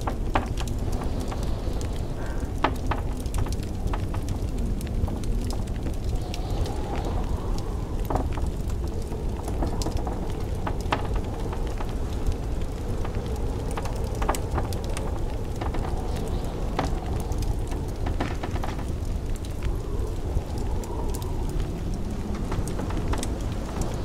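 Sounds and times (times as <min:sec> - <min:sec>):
blizzard wind rumbling: 0:00.0 - 0:24.0
wood fire crackling: 0:00.0 - 0:24.0.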